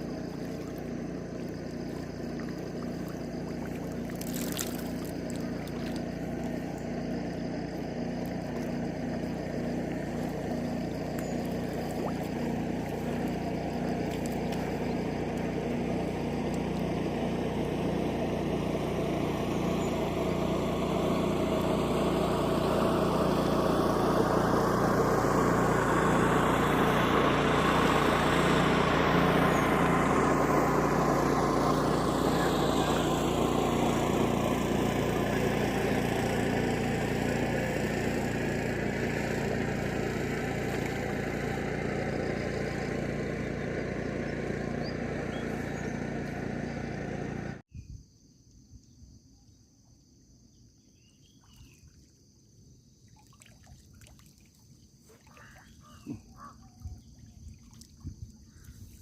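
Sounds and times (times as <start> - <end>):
motorboat engine droning: 0.0 - 47.6, 53.2 - 59.0.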